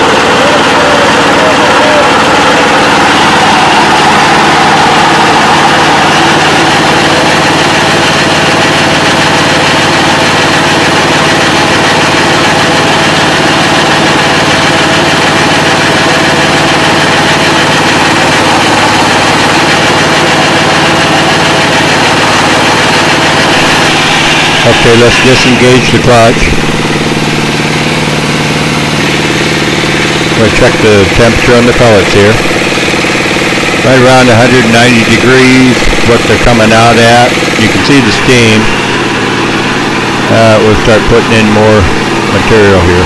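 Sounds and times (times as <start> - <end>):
diesel engine running steadily: 0.0 - 43.0.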